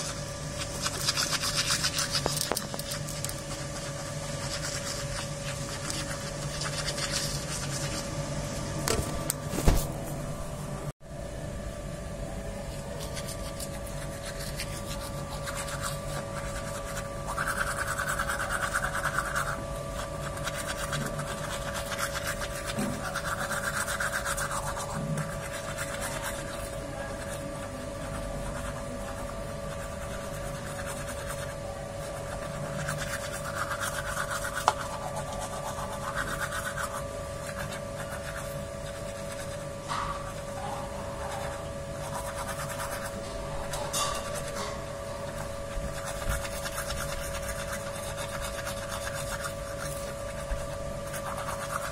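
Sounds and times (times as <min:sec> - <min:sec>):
toothbrush scrubbing teeth: 0:00.0 - 0:08.1, 0:12.7 - 0:51.9
steady background hum: 0:00.0 - 0:51.9.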